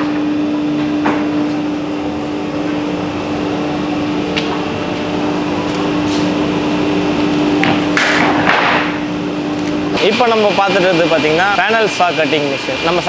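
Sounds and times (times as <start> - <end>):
factory machinery humming: 0.1 - 13.0.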